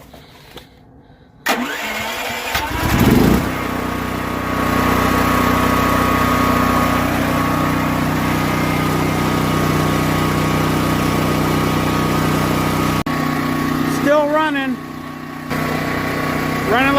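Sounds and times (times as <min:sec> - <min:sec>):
generator engine cranking and running: 0:00.2 - 0:16.9.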